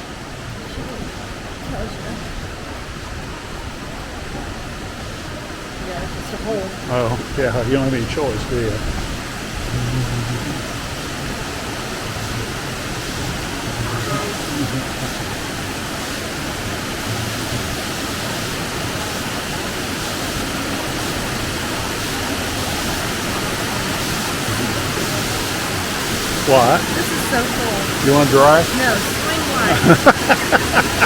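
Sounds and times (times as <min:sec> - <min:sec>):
waterfall rushing in a cave: 0:00.0 - 0:31.0.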